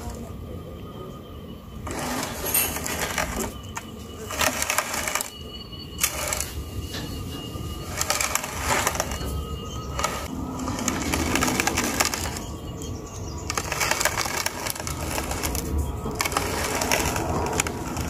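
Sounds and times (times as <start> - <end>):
heavy pot scraping on cement: 1.8 - 18.0.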